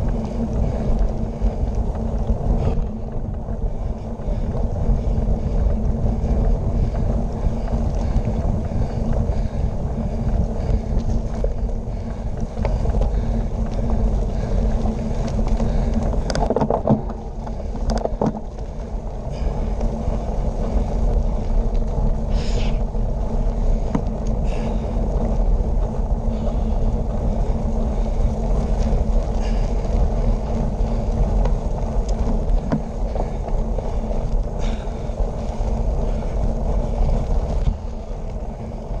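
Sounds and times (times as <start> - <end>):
tyres rumbling on pavement: 0.0 - 39.0
wind on microphone: 0.0 - 39.0.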